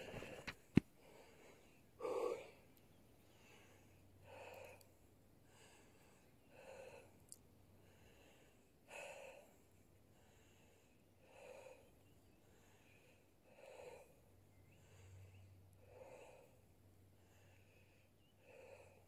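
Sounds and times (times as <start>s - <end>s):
faint slow breathing: 0.0s - 19.0s.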